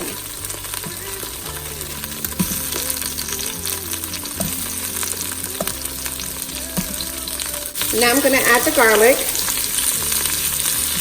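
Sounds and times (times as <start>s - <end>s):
background music: 0.0s - 11.0s
onions sizzling in oil: 0.0s - 11.0s.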